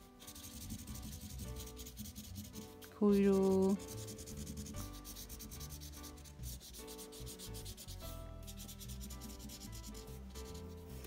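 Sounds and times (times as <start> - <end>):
marker scrubbing on cardboard: 0.2 - 11.0.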